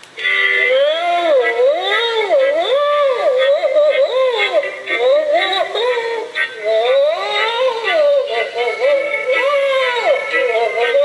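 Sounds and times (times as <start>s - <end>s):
toy sound chip song: 0.2s - 11.0s.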